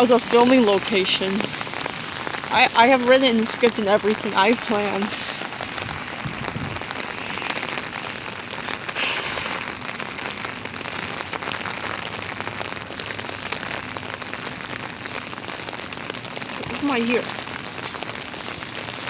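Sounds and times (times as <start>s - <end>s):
heavy rain pattering: 0.0s - 19.0s.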